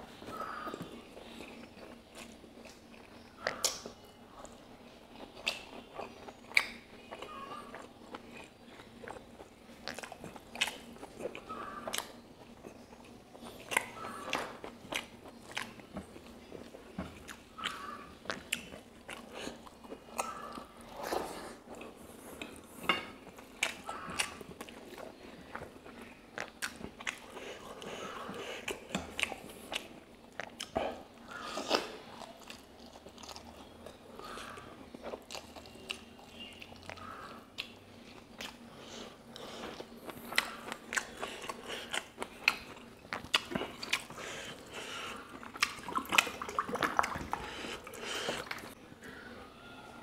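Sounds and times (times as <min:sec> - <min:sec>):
person chewing: 0:00.1 - 0:48.8.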